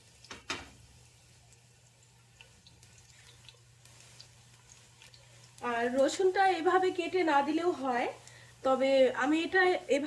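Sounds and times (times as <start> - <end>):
garlic crackling in hot oil: 0.0 - 10.0
low steady hum: 0.0 - 10.0.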